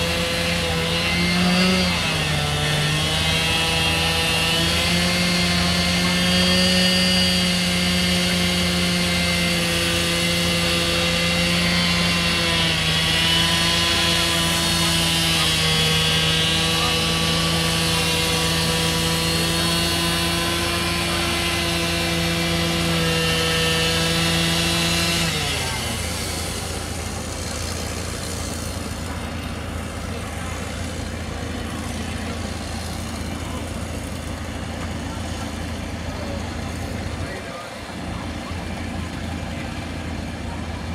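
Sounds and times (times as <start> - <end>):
chainsaw cutting wood: 0.0 - 40.9
chainsaw engine idling: 0.0 - 40.9.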